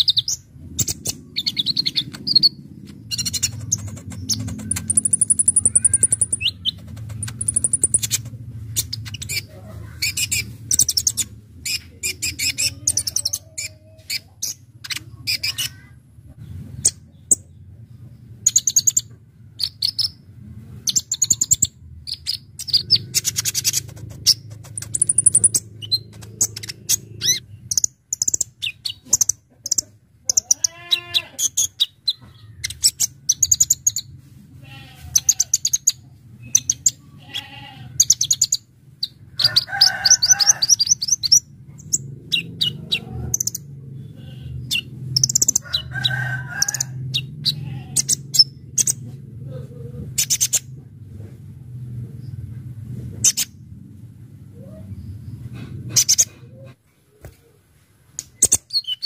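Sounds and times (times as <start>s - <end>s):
bird chirps and trills: 0.0s - 17.6s, 18.4s - 34.1s, 35.1s - 49.0s, 50.1s - 50.7s, 58.2s - 59.0s
steady low hum: 0.0s - 58.3s.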